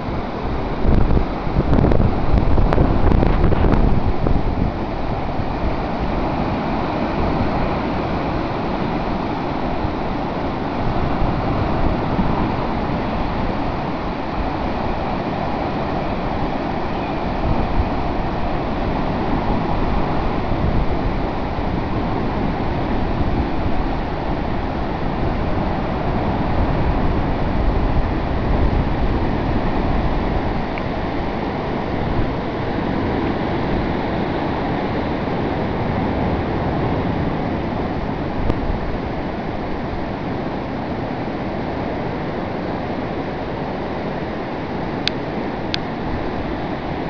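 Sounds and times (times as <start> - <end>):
surf breaking on beach: 0.0 - 47.0
wind buffeting microphone: 0.0 - 47.0.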